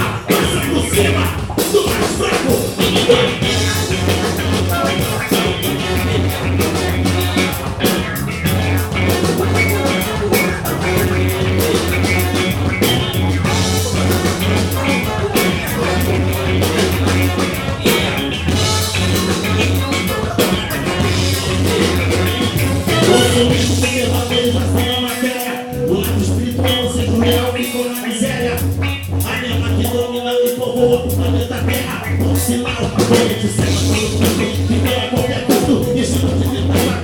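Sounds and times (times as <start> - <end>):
bass guitar: 0.0 - 37.0
drum kit: 0.0 - 37.0
electric guitar: 0.0 - 37.0.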